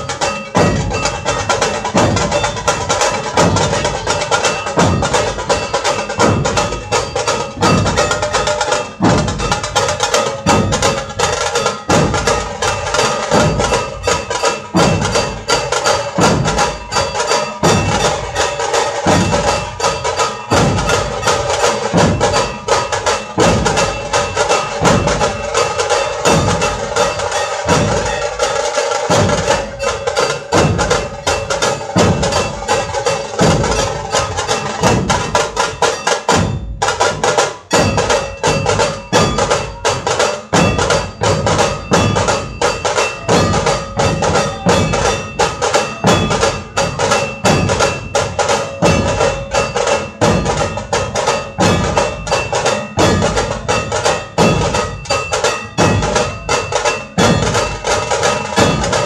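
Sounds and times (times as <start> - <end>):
deep barrel drums pounding: 0.0 - 59.0
rapid crackling drums: 0.0 - 59.0.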